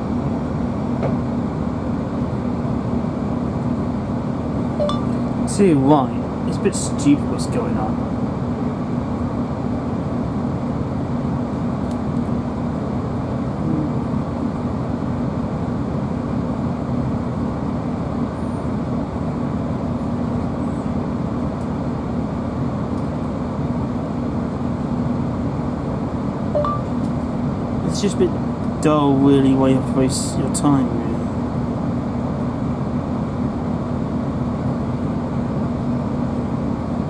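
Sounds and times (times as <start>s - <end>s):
diesel engine drone: 0.0s - 37.0s.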